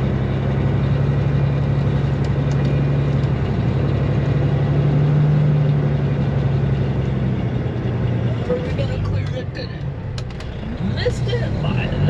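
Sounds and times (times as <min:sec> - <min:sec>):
combine engine running: 0:00.0 - 0:12.0.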